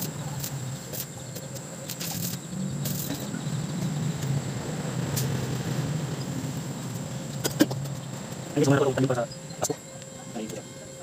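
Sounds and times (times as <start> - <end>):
welding arc crackling: 0.0 - 10.6
crickets chirping: 0.0 - 11.0
steady low hum: 0.0 - 11.0.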